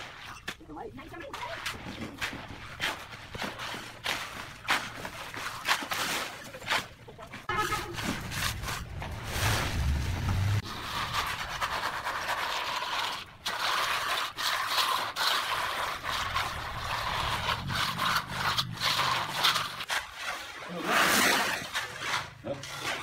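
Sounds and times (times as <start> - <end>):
trowel scraping wet concrete: 0.0 - 23.0.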